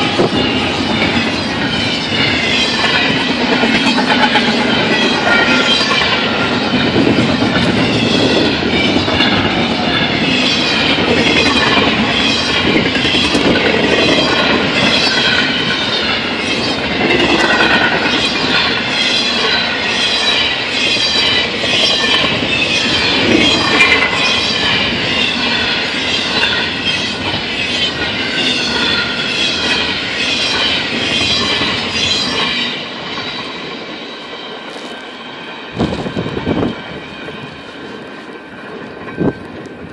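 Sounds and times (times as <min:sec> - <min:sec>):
high-pitched metallic wheel noise: 0:00.0 - 0:39.4
train wheels clicking over rail joints: 0:00.0 - 0:39.9.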